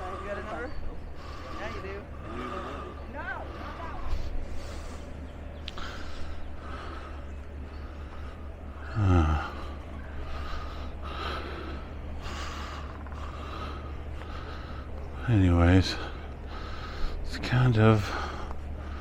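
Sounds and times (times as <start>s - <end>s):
person breathing: 0.0s - 15.2s, 15.9s - 17.3s, 18.0s - 19.0s.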